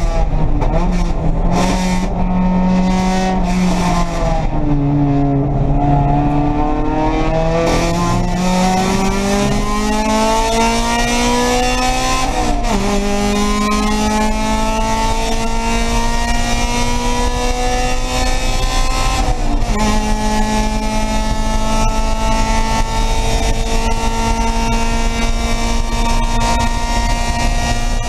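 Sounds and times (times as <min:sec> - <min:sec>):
race car engine revving: 0:00.0 - 0:28.0
wind and road noise: 0:00.0 - 0:28.0.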